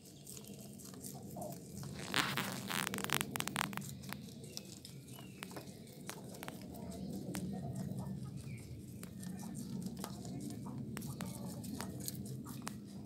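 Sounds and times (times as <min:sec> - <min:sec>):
rabbits nibbling leaves: 0:00.0 - 0:13.0.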